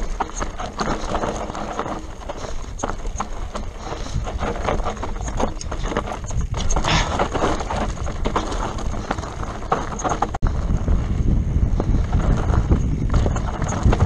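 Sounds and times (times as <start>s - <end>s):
bike rattling over bumps: 0.0s - 14.0s
tyres scrubbing over dirt and stones: 0.0s - 14.0s.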